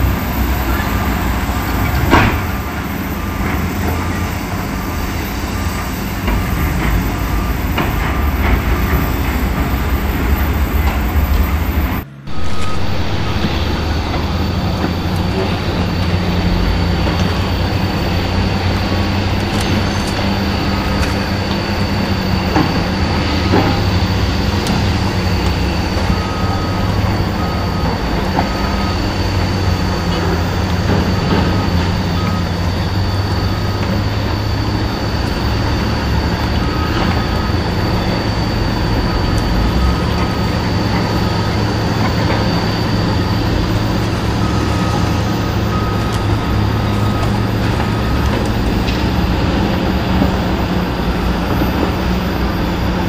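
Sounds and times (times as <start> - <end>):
heavy diesel engines running: 0.0 - 53.0
reversing alarm beeping: 0.0 - 53.0.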